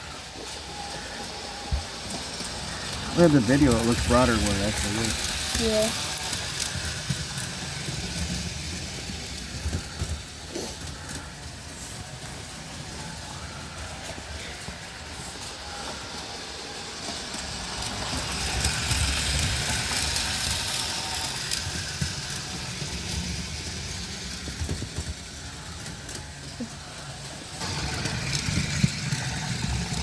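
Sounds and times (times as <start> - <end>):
model train motor humming: 0.0 - 30.0
wheels rattling on rails: 0.0 - 30.0.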